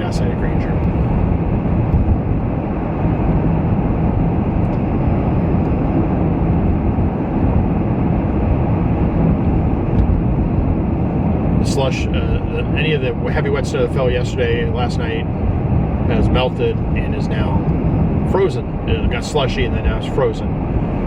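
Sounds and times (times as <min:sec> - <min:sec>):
tyre and engine rumble: 0:00.0 - 0:21.0.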